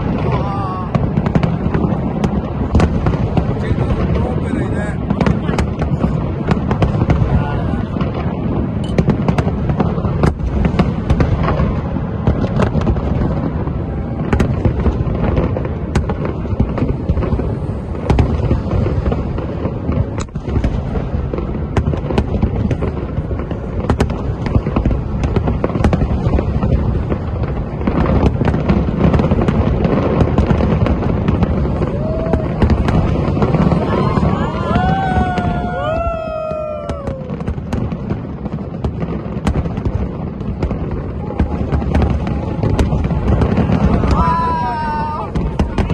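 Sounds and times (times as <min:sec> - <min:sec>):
fireworks booming and cracking: 0:00.0 - 0:45.9.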